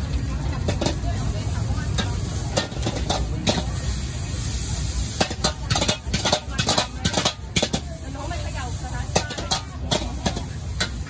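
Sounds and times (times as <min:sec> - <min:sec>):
food sizzling: 0:00.0 - 0:11.0
gas burner rushing: 0:00.0 - 0:11.0
ladle scraping and clanking wok: 0:00.0 - 0:11.0.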